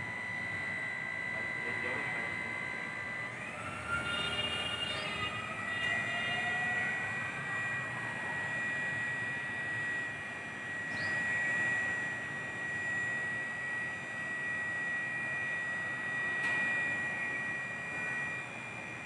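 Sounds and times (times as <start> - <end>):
electric pump motor whining: 0.0 - 19.0.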